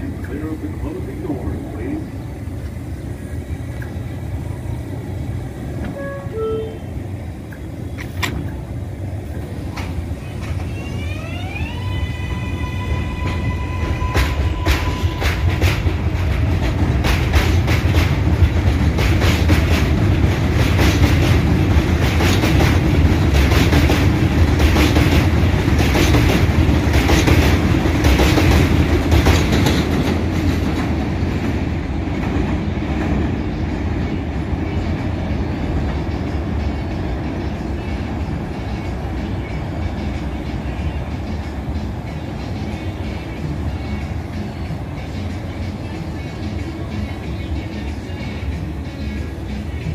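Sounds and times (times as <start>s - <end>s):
low train rumble: 0.0s - 49.9s
subway train wheels rattling: 0.0s - 49.9s.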